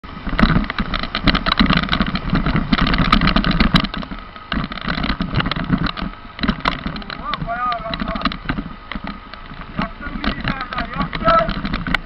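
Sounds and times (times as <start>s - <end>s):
vehicle engine running: 0.0s - 12.0s
vehicle knocks and rattles: 0.0s - 12.0s.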